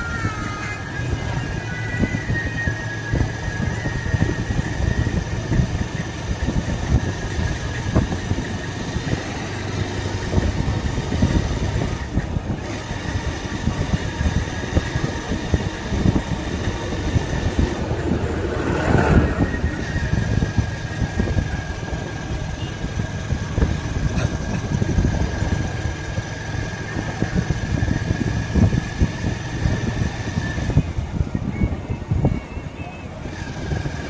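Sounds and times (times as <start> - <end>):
motorcycle engine running: 0.0 - 32.2, 33.1 - 34.0
road and wind noise: 0.0 - 34.0.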